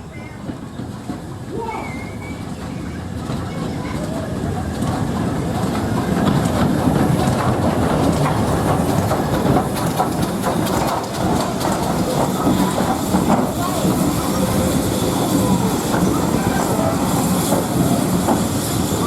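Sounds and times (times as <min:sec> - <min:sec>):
train running on rails: 0:00.0 - 0:19.0
wheels clattering over rail joints: 0:00.0 - 0:19.0.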